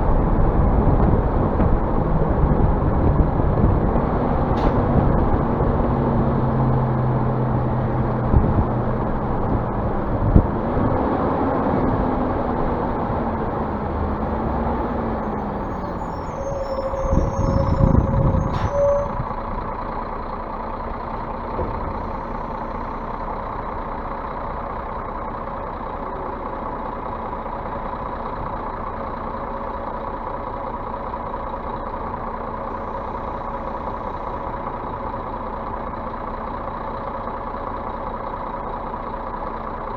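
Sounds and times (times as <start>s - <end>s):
bus diesel engine revving and idling: 0.0s - 39.9s.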